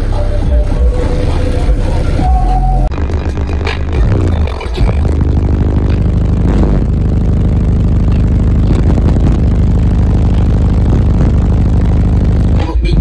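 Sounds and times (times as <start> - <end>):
loud subwoofer bass: 0.0 - 13.0.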